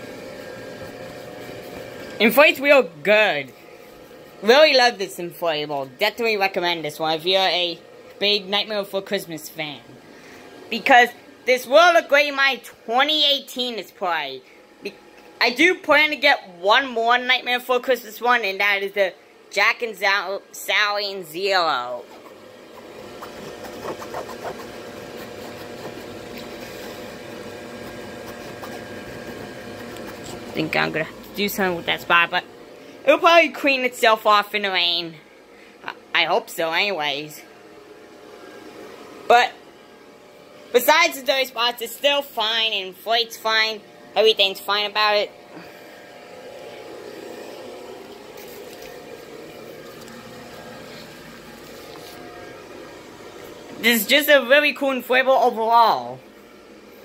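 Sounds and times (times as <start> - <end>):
blower fan humming: 0.0 - 57.0.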